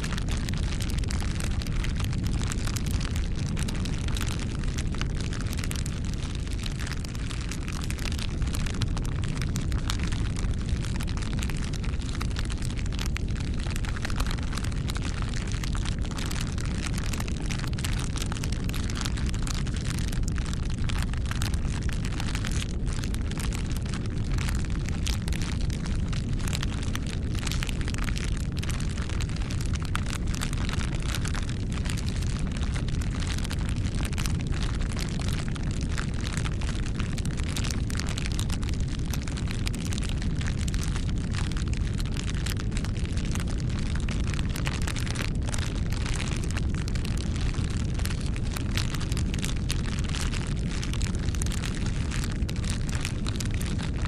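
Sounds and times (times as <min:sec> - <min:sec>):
low fire rumble: 0:00.0 - 0:54.0
wood fire crackling and popping: 0:00.0 - 0:54.0.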